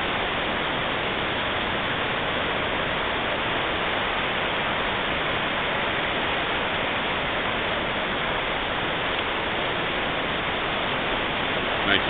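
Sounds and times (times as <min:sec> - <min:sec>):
waterfall whitewater rushing: 0:00.0 - 0:12.0.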